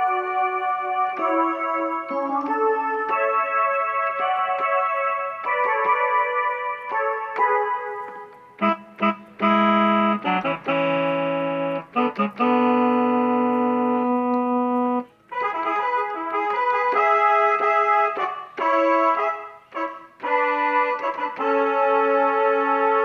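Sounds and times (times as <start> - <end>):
keyboard playing chords: 0.0 - 23.0.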